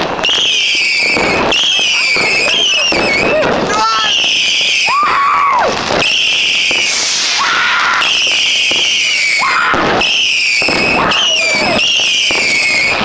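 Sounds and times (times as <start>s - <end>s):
firework bangs: 0.0s - 13.0s
firework whistles: 0.0s - 13.0s
spark fountains hissing and crackling: 0.0s - 13.0s.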